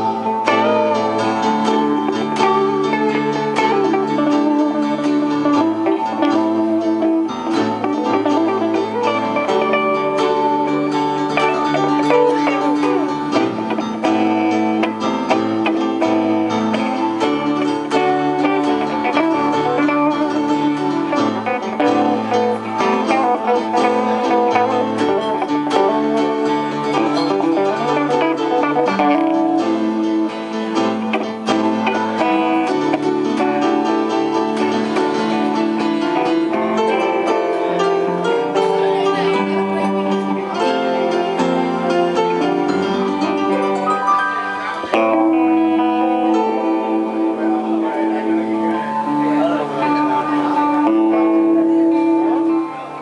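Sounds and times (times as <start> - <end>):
electric guitar: 0.0 - 53.0
electric keyboard: 0.0 - 53.0.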